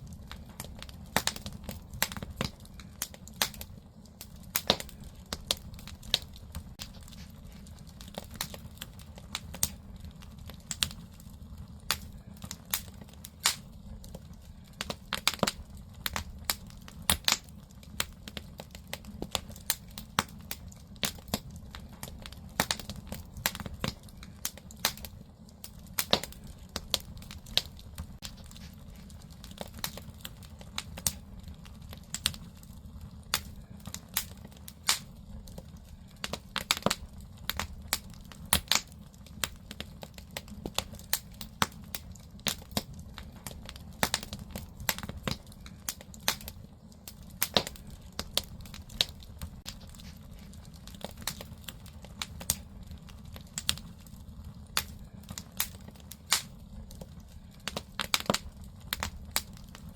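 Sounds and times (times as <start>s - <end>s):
firewood crackling and popping: 0.0s - 59.9s
low rumble of fire: 0.0s - 59.9s.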